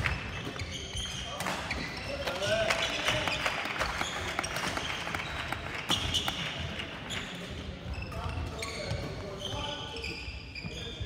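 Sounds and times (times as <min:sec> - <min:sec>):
shoes squeaking on court floor: 0:00.0 - 0:11.0.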